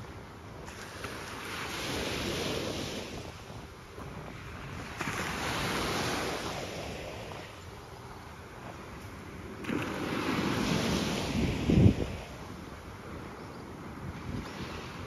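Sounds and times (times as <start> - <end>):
small waves breaking on sand: 0.0 - 15.0
wind rumbling on microphone: 0.0 - 15.0.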